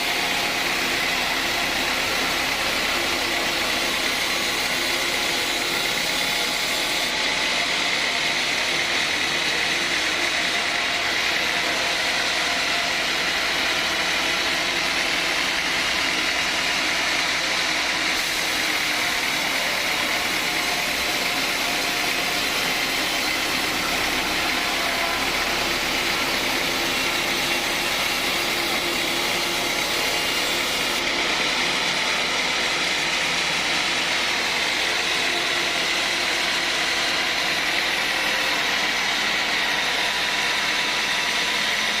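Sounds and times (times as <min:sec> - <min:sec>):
sawmill saw whining: 0:00.0 - 0:42.0.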